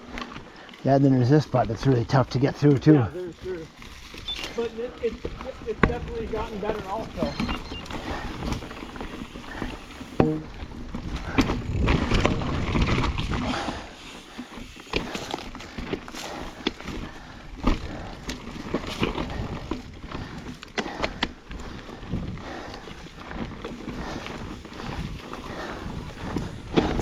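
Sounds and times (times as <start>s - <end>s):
rider breathing heavily: 0.0s - 0.8s, 3.1s - 12.0s, 13.2s - 27.0s
bike knocking and rattling: 0.0s - 27.0s
bike tyres on dirt: 0.0s - 27.0s.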